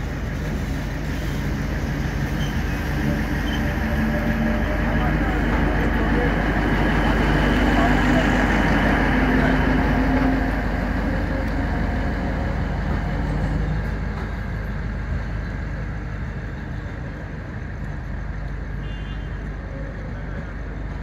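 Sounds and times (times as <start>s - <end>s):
passenger train rumbling: 0.0s - 21.0s.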